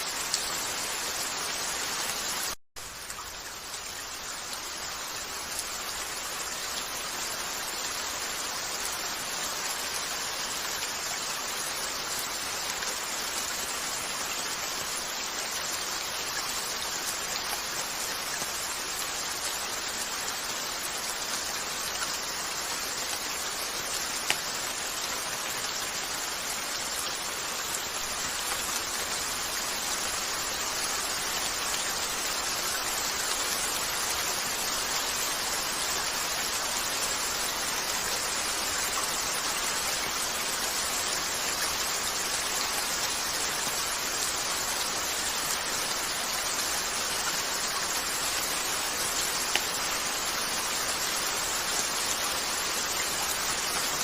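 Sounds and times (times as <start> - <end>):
rain falling on a window: 0.0 - 54.0.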